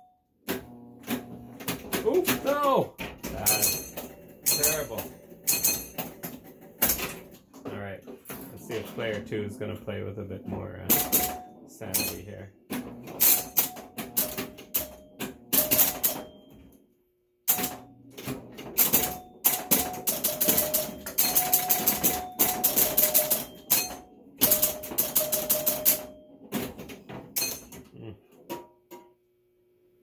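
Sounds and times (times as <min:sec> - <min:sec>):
pinball machine clatter: 0:00.4 - 0:09.6, 0:10.4 - 0:16.8, 0:17.5 - 0:29.2.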